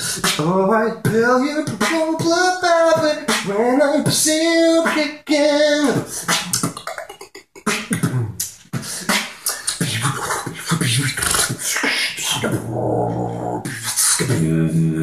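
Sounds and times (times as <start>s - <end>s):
human beatboxing: 0.0s - 15.0s.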